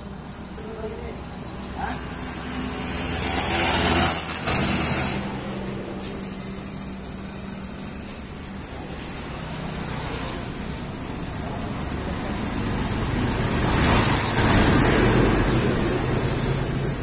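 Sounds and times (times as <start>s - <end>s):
vehicle passing: 0.7s - 7.6s, 8.6s - 17.0s.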